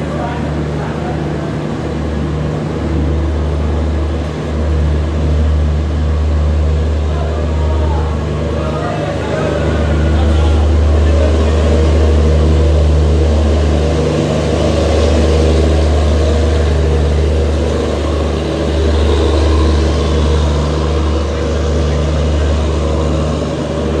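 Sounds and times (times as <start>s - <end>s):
low train engine hum: 0.0s - 24.0s
train coaches rolling past: 0.0s - 24.0s.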